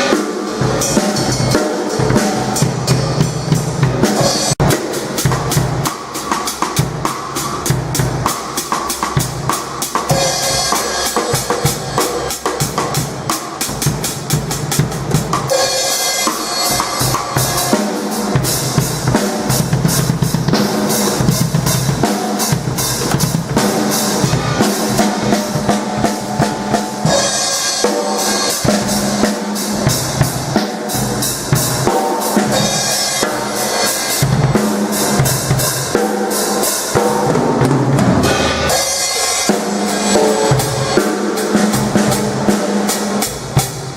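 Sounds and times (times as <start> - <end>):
drum kit playing: 0.0 - 43.9.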